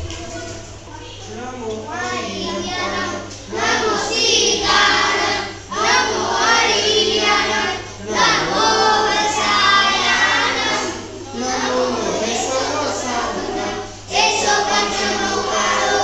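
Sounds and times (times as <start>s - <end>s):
children singing in unison: 2.1s - 16.0s.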